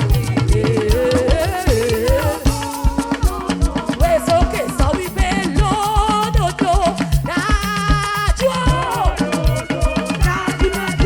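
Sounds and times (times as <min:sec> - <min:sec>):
upbeat gospel music: 0:00.0 - 0:11.0.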